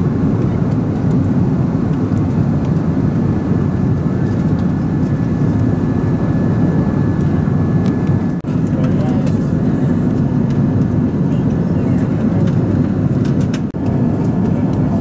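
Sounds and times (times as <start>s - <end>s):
aircraft cabin engine roar: 0.0s - 15.0s.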